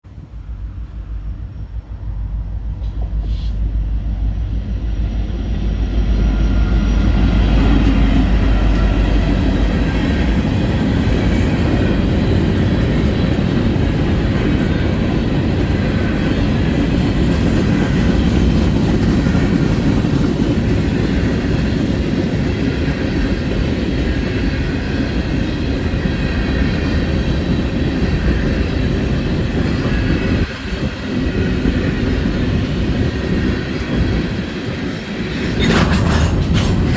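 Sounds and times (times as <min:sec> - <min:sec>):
diesel locomotive rumble: 0:00.0 - 0:36.9
freight cars rolling on rails: 0:00.1 - 0:36.9.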